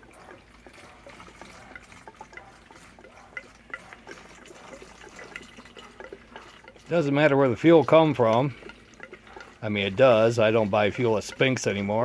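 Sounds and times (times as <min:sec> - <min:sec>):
liquid pouring and sloshing: 0:00.0 - 0:12.0.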